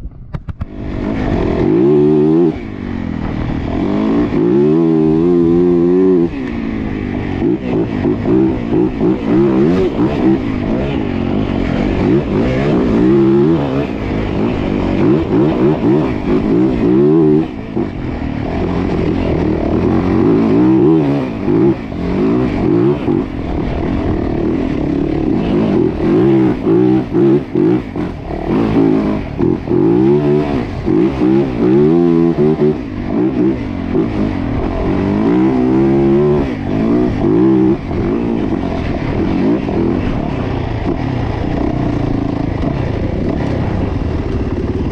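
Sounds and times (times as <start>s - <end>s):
dirt bike engine revving: 0.6s - 44.9s.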